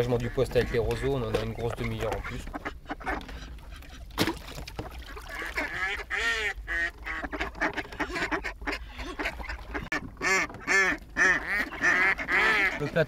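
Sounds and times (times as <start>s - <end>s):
ducks quacking: 0.0s - 4.2s, 4.8s - 13.0s.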